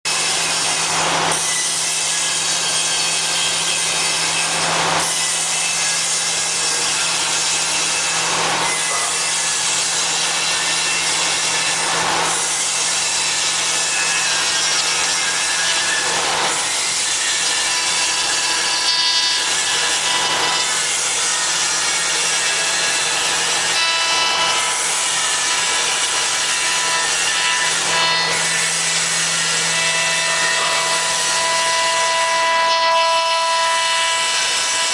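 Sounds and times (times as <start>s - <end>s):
router spindle milling wood: 0.1s - 34.9s.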